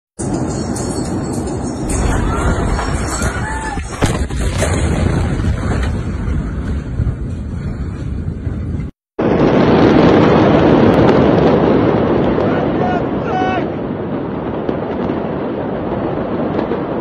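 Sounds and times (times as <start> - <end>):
fire rushing: 0.2 - 17.0.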